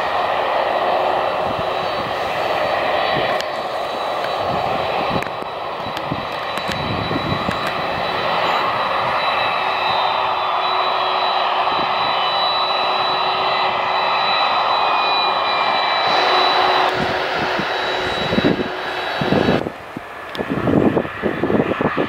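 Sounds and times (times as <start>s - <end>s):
high-pitched engine whine: 0.0s - 22.0s
jet engines running: 0.0s - 22.0s
wind buffeting microphone: 0.1s - 10.6s, 11.5s - 22.0s.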